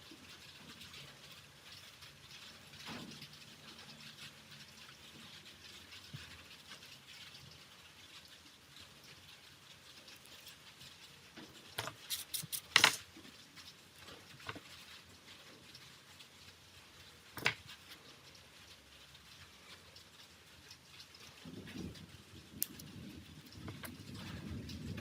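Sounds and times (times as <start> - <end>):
scratchy tapping of small parts: 0.1 - 24.9.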